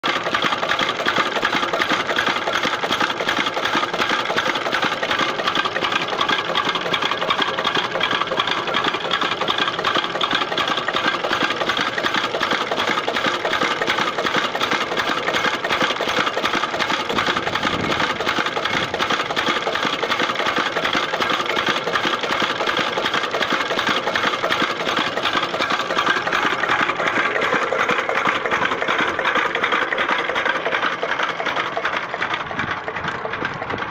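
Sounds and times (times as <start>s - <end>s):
small diesel engine clattering: 0.0s - 33.9s.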